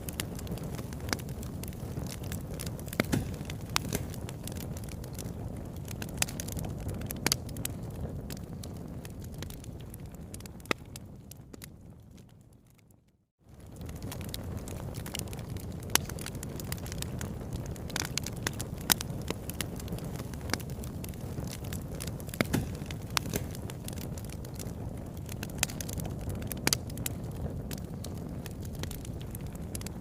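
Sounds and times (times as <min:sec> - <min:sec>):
fire crackling and popping: 0:00.0 - 0:30.0
low rumble of flames: 0:00.0 - 0:30.0.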